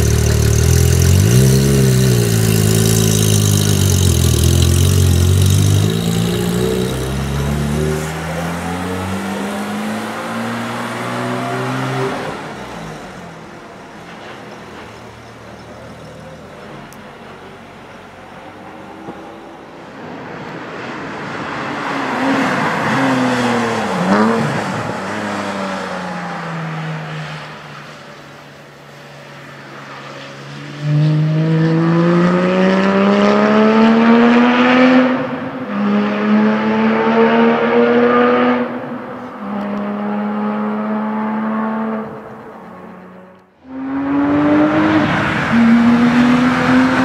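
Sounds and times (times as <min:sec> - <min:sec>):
car accelerating with gear changes: 0:00.0 - 0:17.1, 0:22.0 - 0:27.6, 0:29.9 - 0:47.0
sports car engine passing: 0:00.0 - 0:47.0.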